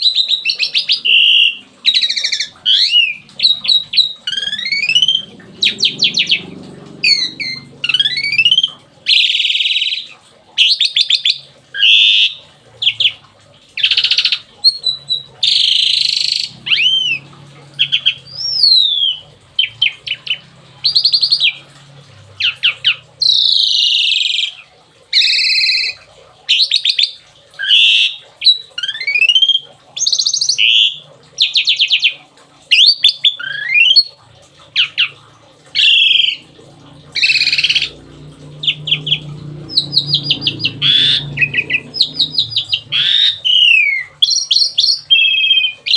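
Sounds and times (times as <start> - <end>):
starling singing: 0.0 - 13.2, 13.8 - 34.1, 34.7 - 45.9.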